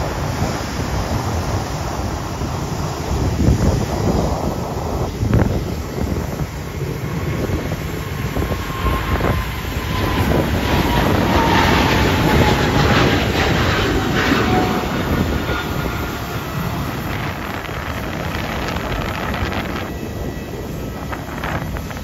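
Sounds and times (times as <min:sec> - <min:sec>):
jet engines rumbling: 0:00.0 - 0:22.0
wind buffeting microphone: 0:00.0 - 0:22.0.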